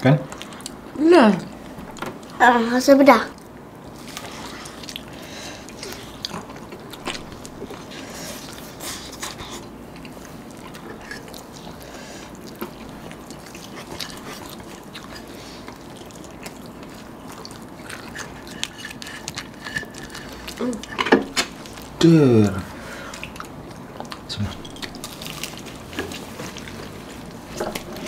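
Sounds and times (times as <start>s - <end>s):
people chewing crispy food: 0.2s - 2.4s, 3.3s - 28.0s.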